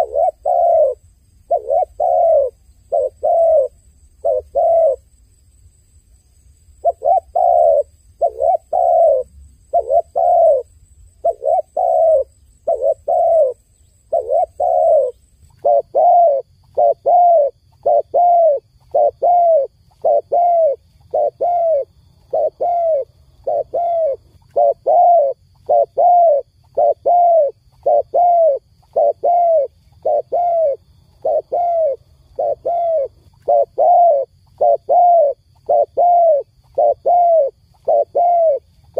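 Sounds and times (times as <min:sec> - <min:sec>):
dove cooing: 0:00.0 - 0:05.1, 0:06.8 - 0:38.7.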